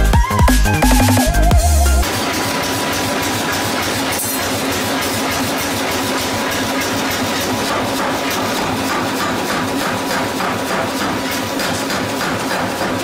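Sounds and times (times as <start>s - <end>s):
machinery drone and hiss: 2.0s - 13.0s.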